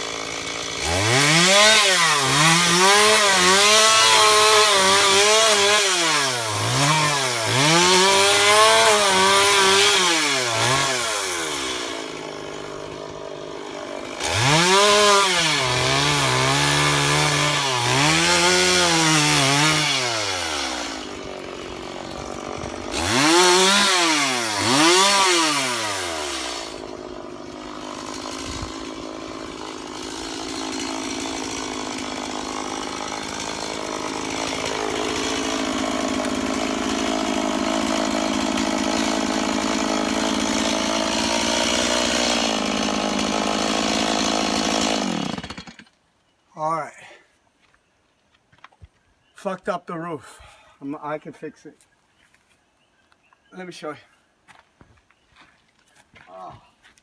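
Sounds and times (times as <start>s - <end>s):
chainsaw revving cutting wood: 0.0s - 45.9s.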